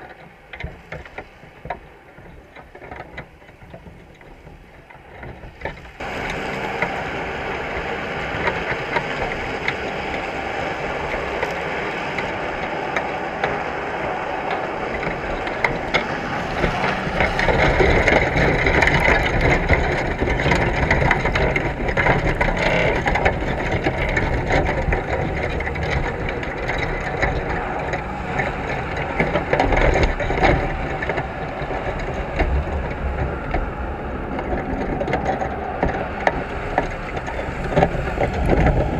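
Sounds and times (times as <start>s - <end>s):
crab trap clattering underwater: 0.0s - 38.9s.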